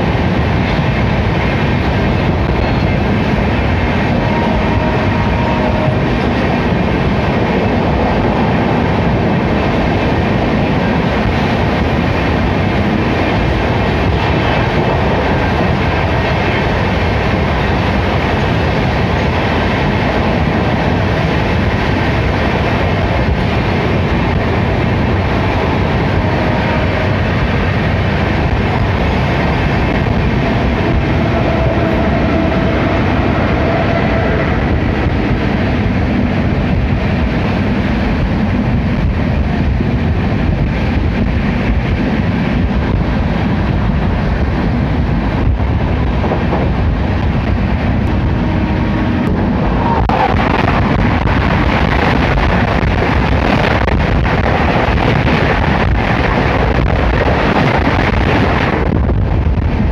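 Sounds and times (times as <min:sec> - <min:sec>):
passing train alongside: 0:00.0 - 0:59.9
train wheels rumbling on rails: 0:00.0 - 0:59.9.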